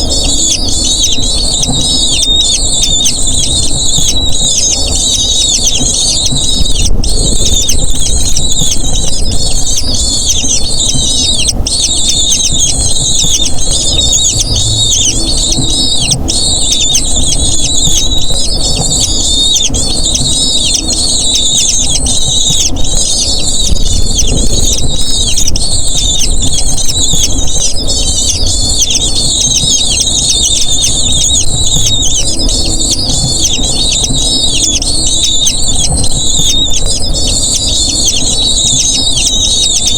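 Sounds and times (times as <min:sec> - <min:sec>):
low rumble: 0:00.0 - 0:38.8
eagle chicks squealing: 0:00.0 - 0:39.9.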